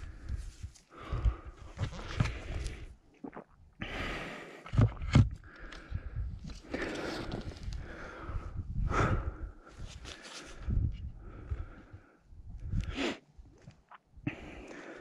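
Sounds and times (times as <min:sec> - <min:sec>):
close breathing: 0:00.0 - 0:03.0, 0:03.8 - 0:13.3, 0:14.2 - 0:15.0.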